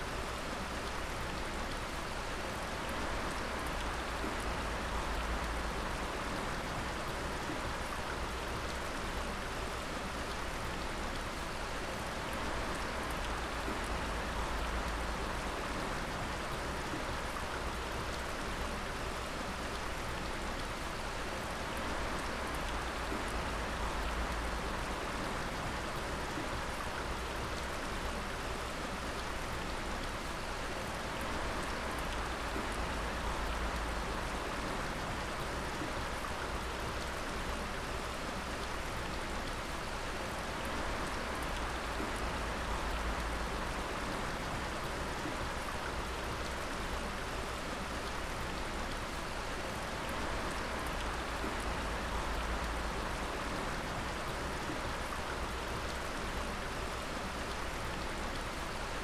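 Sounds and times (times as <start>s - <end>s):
faint water trickle: 0.0s - 59.0s.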